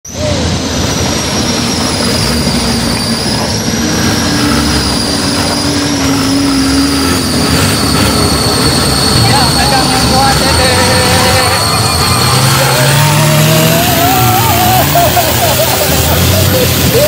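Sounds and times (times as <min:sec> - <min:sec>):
vehicle engines: 0:00.0 - 0:17.0
faint high whine: 0:00.1 - 0:17.0
water splashing from wheels: 0:00.2 - 0:17.0.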